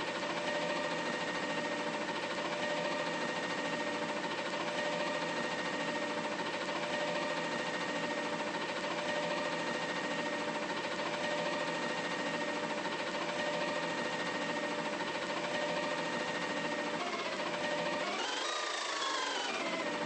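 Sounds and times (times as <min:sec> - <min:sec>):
mechanical whine: 0:00.0 - 0:20.0.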